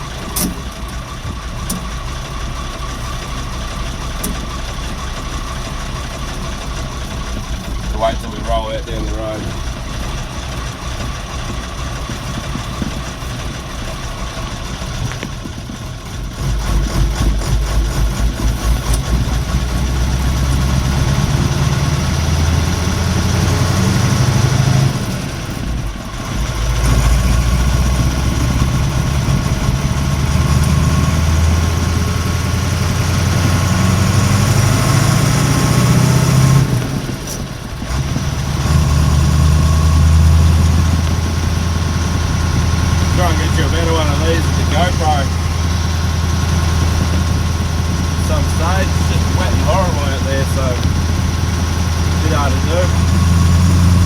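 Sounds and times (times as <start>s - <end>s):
diesel truck engine accelerating: 0.0s - 54.0s.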